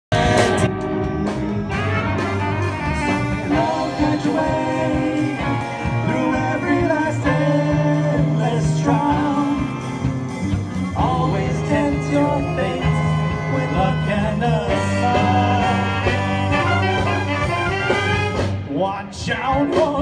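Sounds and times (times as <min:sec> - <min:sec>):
live jazz band with horns: 0:00.1 - 0:20.0.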